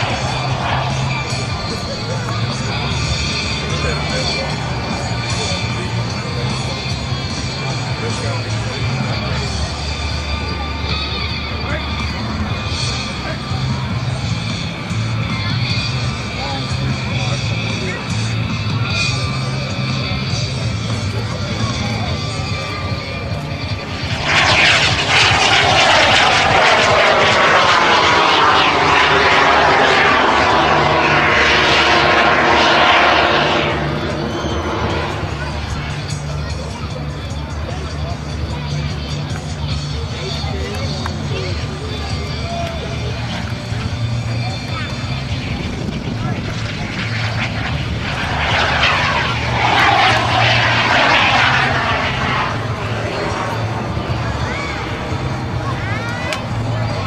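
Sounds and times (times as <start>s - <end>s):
jet engine whine passing: 0.0s - 57.0s.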